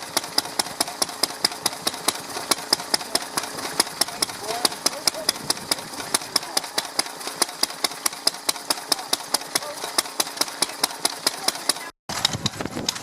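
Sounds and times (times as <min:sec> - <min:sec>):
stationary engine running: 0:00.0 - 0:13.0.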